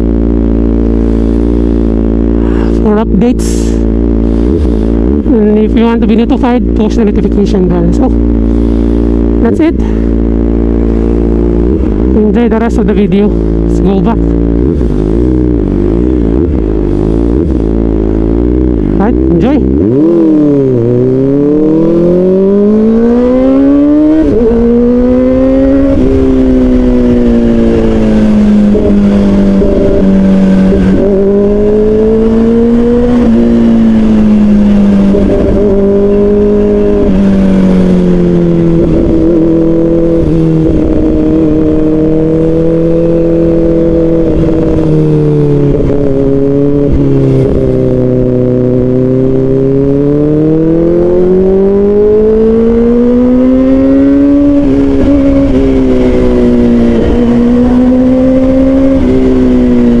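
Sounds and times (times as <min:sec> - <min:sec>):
motorcycle engine while riding: 0:00.0 - 1:00.0.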